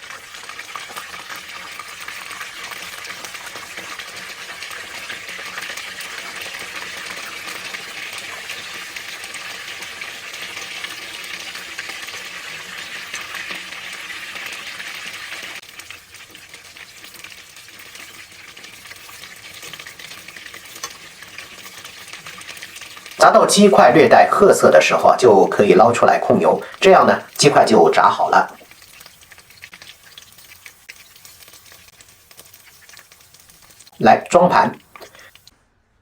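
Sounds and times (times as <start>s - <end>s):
chicken sizzling in deep oil: 0.0s - 35.5s.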